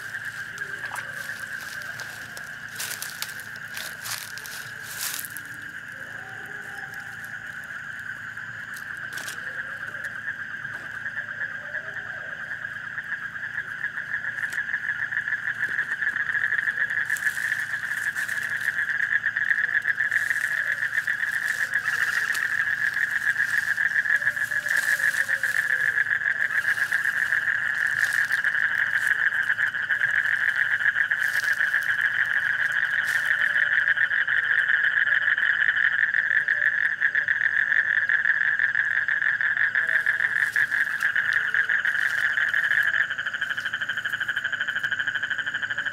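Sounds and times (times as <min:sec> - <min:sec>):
frogs trilling chorus: 0:00.0 - 0:45.9.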